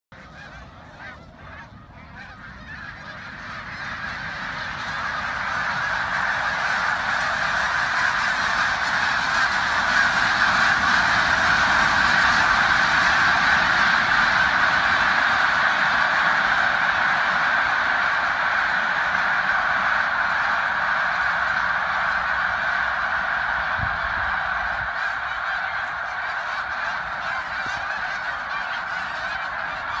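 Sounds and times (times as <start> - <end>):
flock of geese honking: 0.1 - 30.0.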